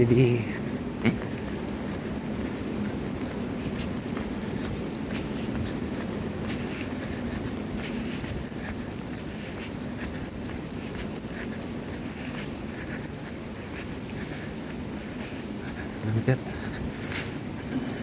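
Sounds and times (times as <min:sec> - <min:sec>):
faint high clicks: 0:00.0 - 0:18.0
hall background hum: 0:00.0 - 0:18.0.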